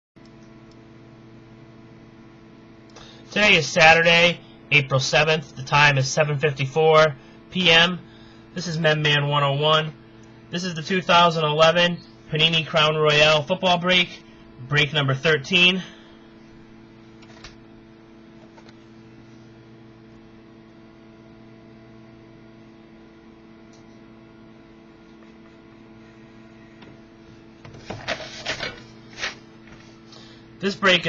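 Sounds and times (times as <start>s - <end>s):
low electrical hum: 0.2s - 31.0s.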